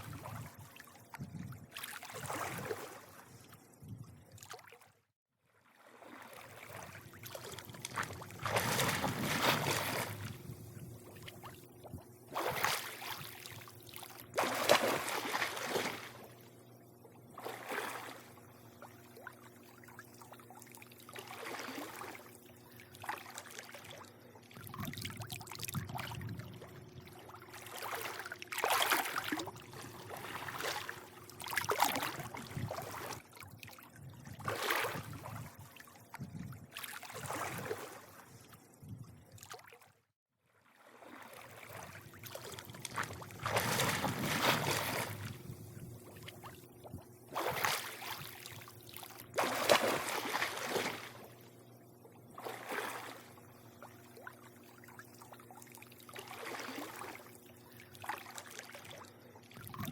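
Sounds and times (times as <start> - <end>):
pool water lapping and sloshing: 0.0 - 59.9
faint steady hum: 5.8 - 39.6, 40.8 - 59.9.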